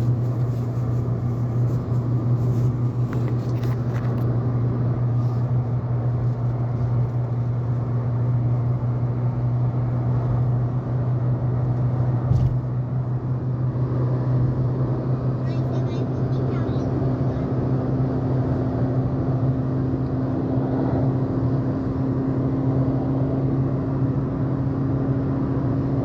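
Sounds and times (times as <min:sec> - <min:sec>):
road noise: 0:00.0 - 0:26.0
vehicle engine droning: 0:00.0 - 0:26.0.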